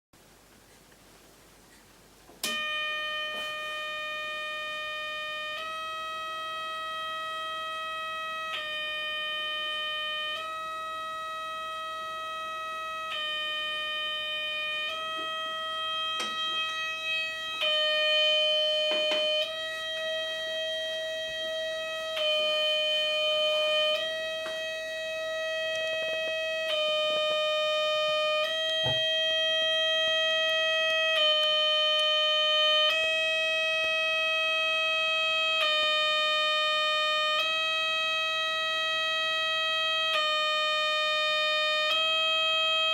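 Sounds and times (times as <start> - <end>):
buzzy electronic tone: 2.4 - 42.9.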